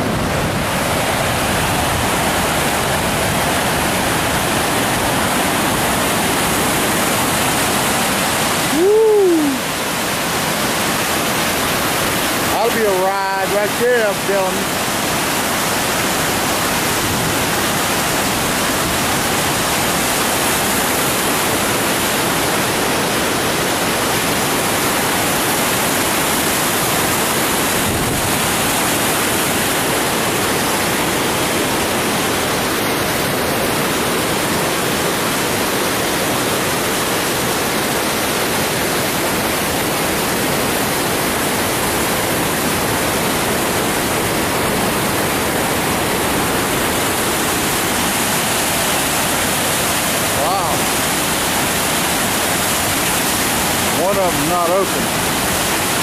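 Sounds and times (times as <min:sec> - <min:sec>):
water pouring over a dam: 0:00.0 - 0:56.0.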